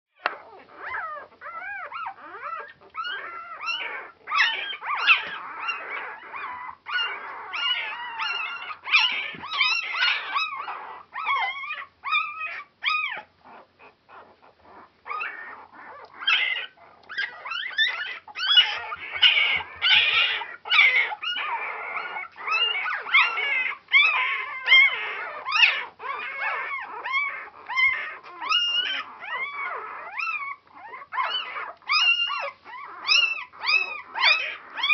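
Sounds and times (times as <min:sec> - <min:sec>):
puppies crying: 0:00.2 - 0:34.9.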